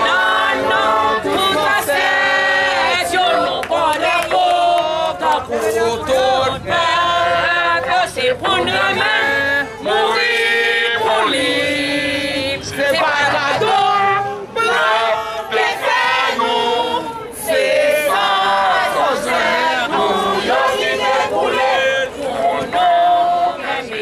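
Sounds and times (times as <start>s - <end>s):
crowd singing in unison: 0.0s - 24.0s.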